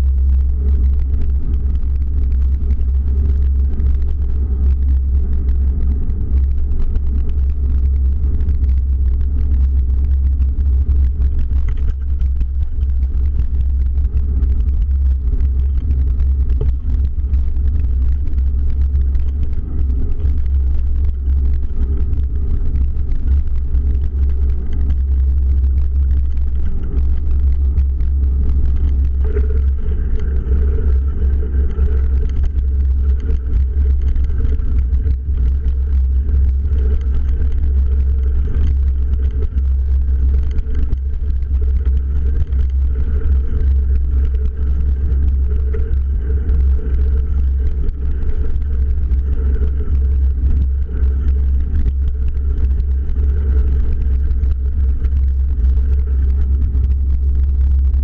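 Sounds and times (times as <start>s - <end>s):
gravel ticks: 0.0s - 58.0s
wind rumble on microphone: 0.0s - 58.0s.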